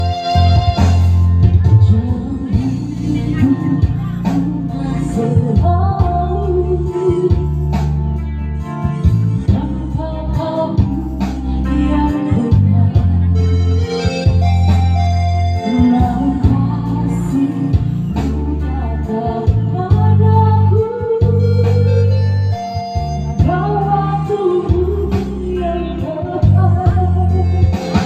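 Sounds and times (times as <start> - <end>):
electronic organ chords: 0.0 - 28.0.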